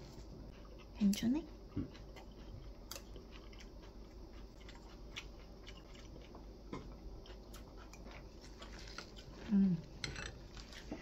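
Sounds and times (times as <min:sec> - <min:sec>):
chewing salad: 0:00.0 - 0:11.0.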